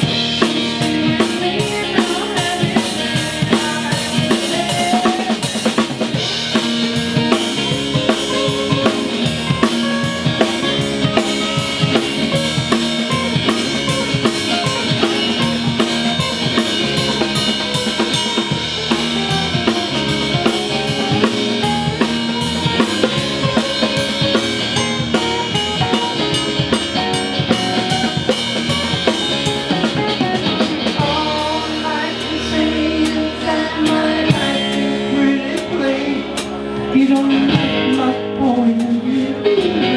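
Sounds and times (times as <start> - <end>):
drum kit beat: 0.0 - 39.9.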